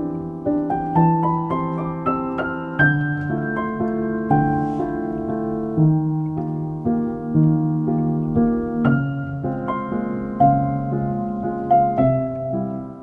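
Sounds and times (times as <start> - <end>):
gentle piano piece: 0.0 - 13.0.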